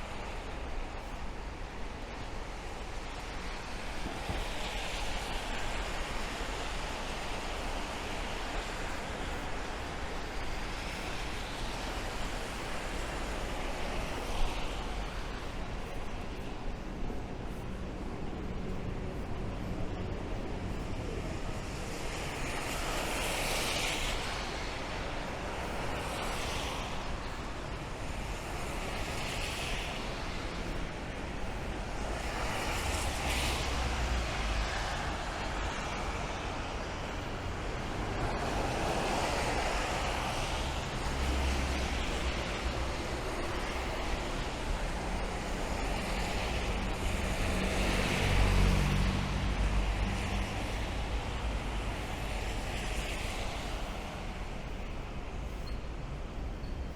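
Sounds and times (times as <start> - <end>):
tyres hissing on wet road: 0.0 - 55.7
rain: 0.0 - 56.9.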